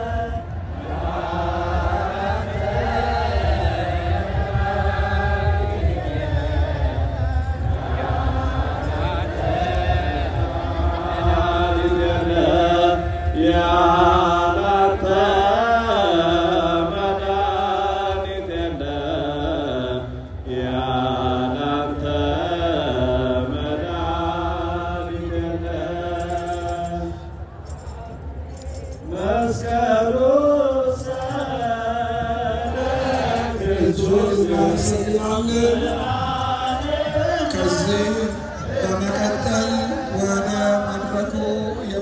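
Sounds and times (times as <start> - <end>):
choir chanting a hymn: 0.0 - 42.0.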